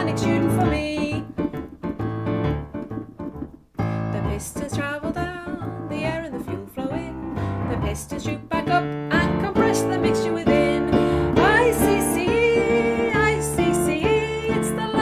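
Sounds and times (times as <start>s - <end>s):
digital piano playing chords: 0.0s - 15.0s.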